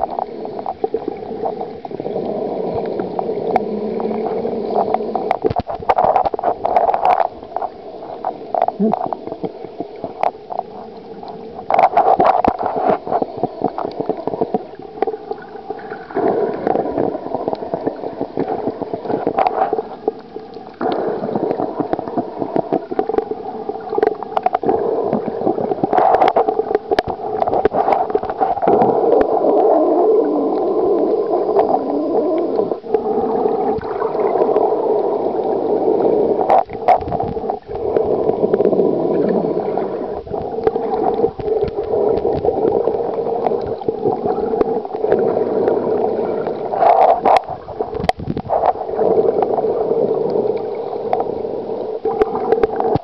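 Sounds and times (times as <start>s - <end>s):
muffled underwater gurgling: 0.0s - 53.0s.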